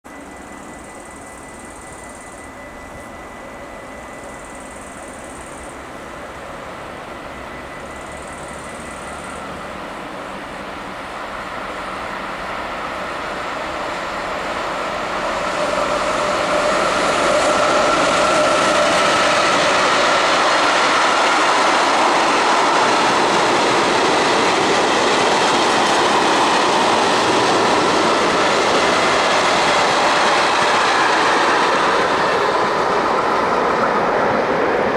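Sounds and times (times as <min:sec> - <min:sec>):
freight train wheels on rails: 0:00.0 - 0:34.9.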